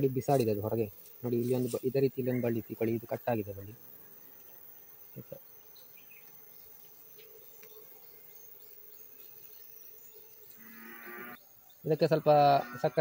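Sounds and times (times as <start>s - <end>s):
honeybees humming: 0.0s - 13.0s
faint high chirping: 0.8s - 13.0s.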